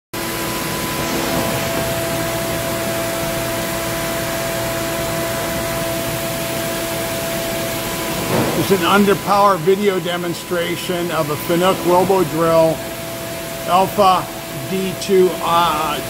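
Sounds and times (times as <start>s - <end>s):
machine whine: 0.2s - 16.0s.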